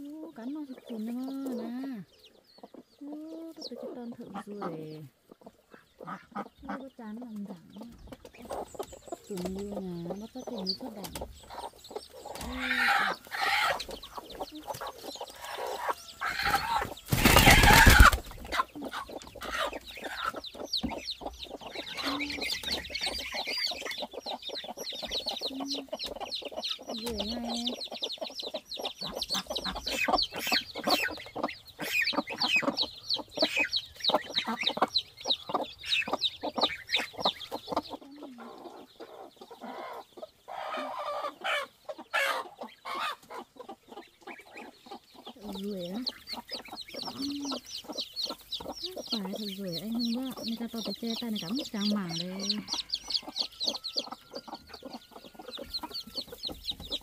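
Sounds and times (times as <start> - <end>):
chickens clucking: 0.0 - 57.0
chicks peeping: 0.0 - 57.0.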